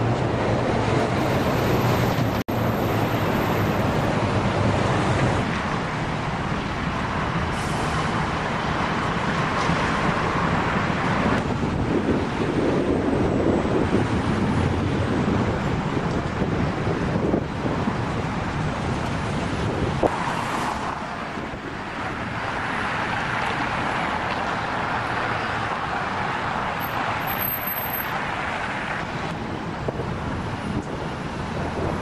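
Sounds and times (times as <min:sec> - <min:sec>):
city traffic rumble: 0:00.0 - 0:32.0.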